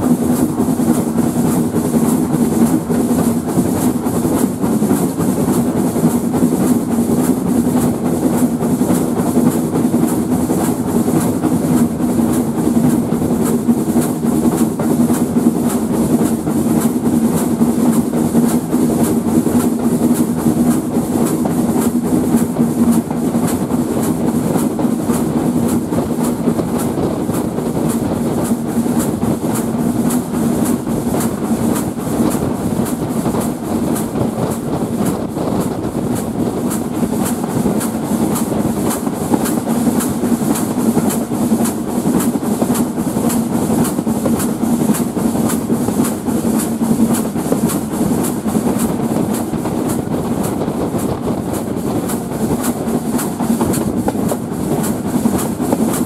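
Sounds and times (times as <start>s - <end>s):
train rumbling and clattering: 0.0s - 56.0s.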